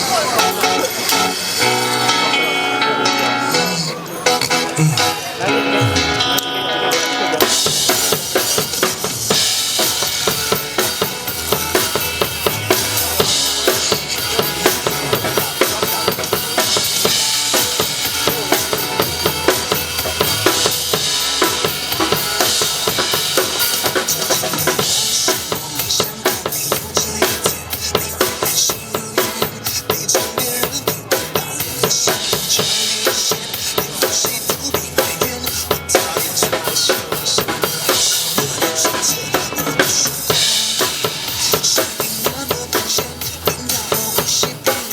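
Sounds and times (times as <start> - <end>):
backing music: 0.0 - 44.9
drum kit playing: 0.0 - 44.9.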